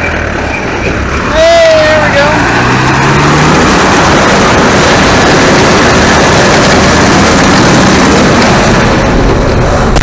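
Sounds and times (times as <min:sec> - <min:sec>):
combine harvester running: 0:00.0 - 0:10.0.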